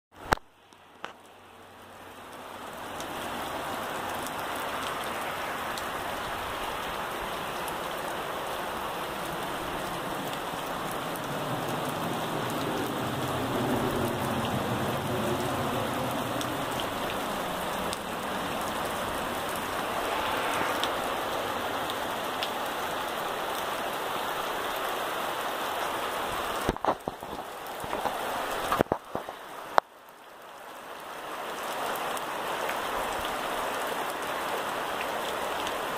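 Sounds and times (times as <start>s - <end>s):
rain falling on wet ground: 0.1s - 35.9s.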